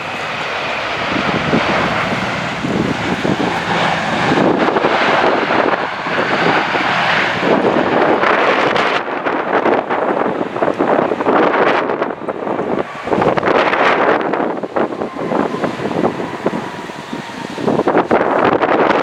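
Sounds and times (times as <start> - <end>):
airliner engines rushing: 0.0 - 19.0
wind gusts buffeting microphone: 0.0 - 19.0.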